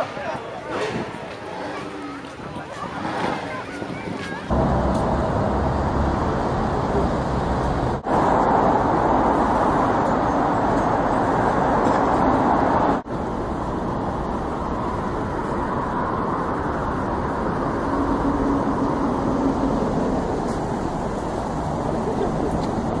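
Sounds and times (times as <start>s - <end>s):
vehicle road and engine noise: 0.0s - 23.0s.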